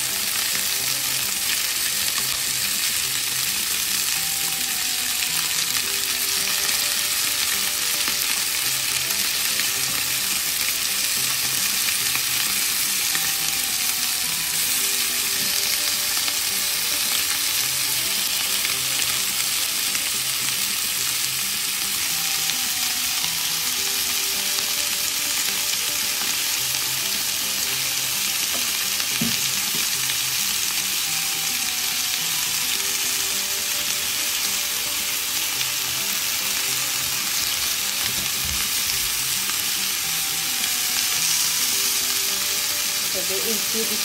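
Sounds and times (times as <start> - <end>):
chicken sizzling in hot oil: 0.0 - 44.0.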